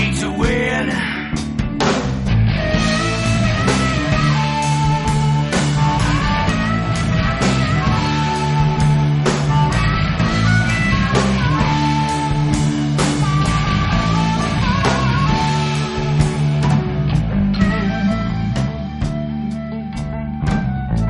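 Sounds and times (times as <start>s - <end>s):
rock music with guitars: 0.0s - 21.0s.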